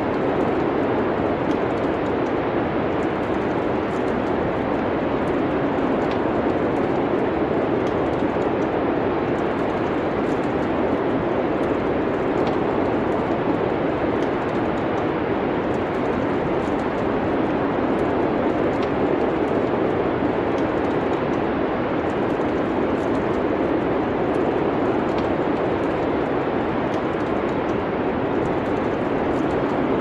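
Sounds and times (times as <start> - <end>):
rushing wind: 0.0 - 30.0
wood fire crackling: 0.0 - 30.0.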